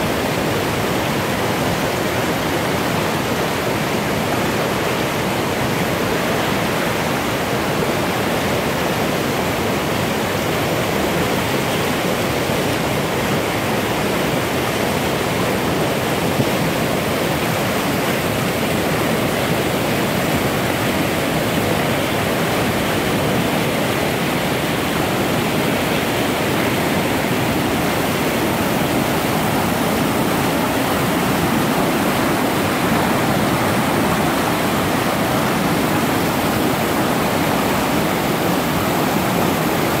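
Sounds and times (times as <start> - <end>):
river rushing over rocks: 0.0 - 40.0.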